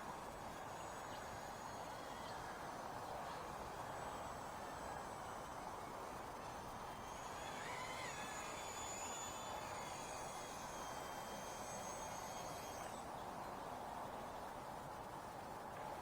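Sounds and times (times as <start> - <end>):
small helicopter rotors whining: 0.0 - 16.0.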